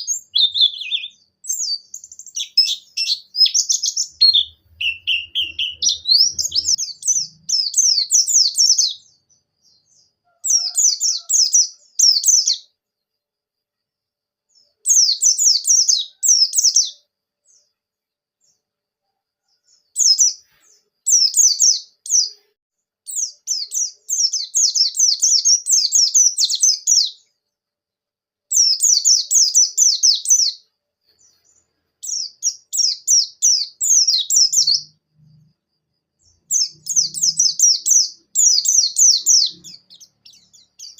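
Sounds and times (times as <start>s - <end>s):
white-eye bird singing: 0.0s - 12.7s, 14.5s - 17.8s, 19.4s - 22.5s, 23.1s - 27.4s, 28.5s - 35.5s, 36.2s - 40.9s.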